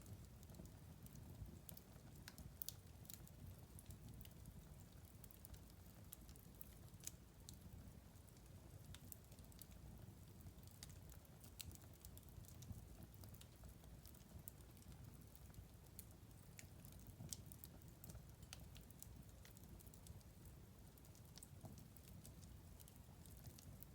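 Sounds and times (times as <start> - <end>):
wood fire crackling: 0.0 - 23.9.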